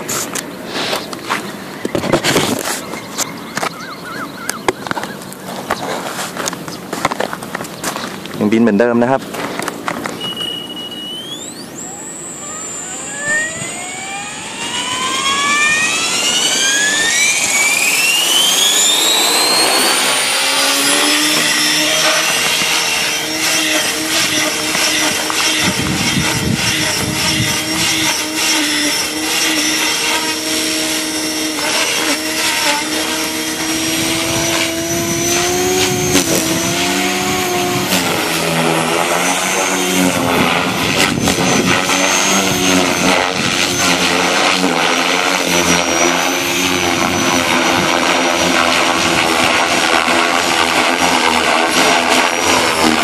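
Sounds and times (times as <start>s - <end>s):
rc helicopter motor whine: 0.0s - 53.0s.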